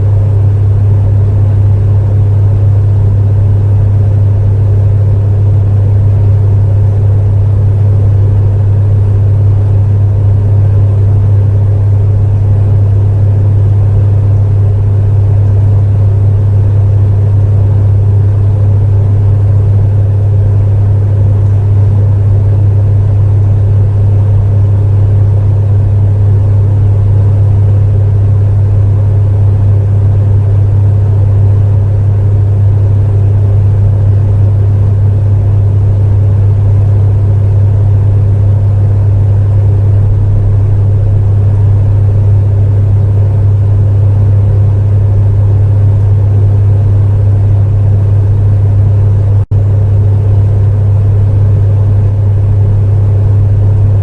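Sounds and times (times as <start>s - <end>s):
space heater drone and fan: 0.0s - 54.0s.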